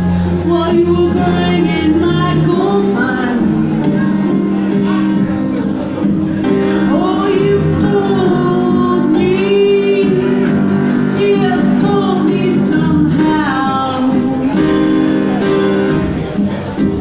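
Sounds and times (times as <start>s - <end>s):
person singing: 0.0s - 15.2s
live band playing: 0.0s - 17.0s.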